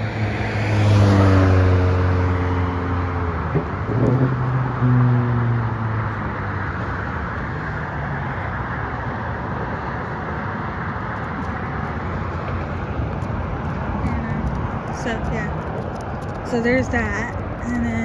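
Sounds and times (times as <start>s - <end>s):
car engine passing: 0.0s - 18.0s
traffic rushing noise: 0.0s - 18.0s.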